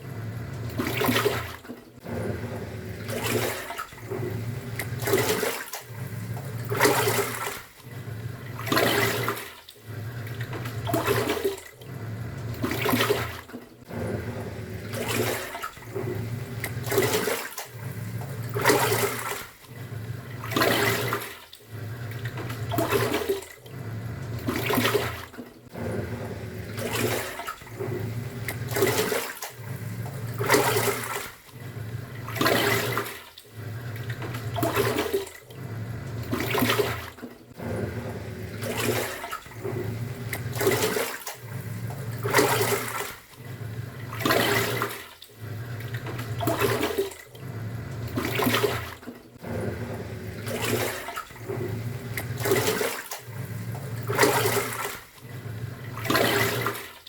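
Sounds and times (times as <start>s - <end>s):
washing machine motor hum: 0.0s - 57.0s
water swishing: 0.0s - 57.0s.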